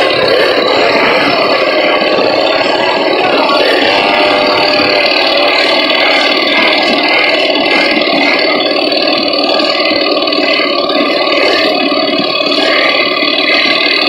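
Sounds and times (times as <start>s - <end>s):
many moped engines idling: 0.0s - 14.0s.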